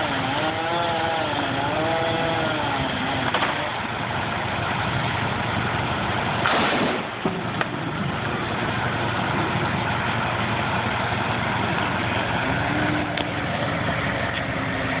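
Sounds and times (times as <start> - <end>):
large engine idling: 1.0 - 15.0.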